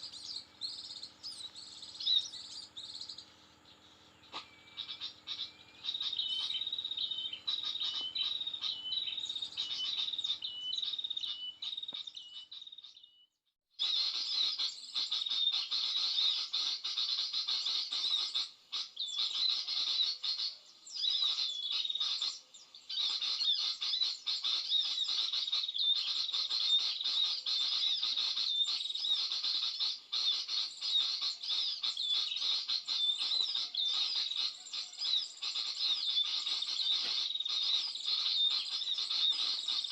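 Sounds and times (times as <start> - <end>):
high-pitched bird chirping: 0.0 - 13.2, 13.8 - 39.9.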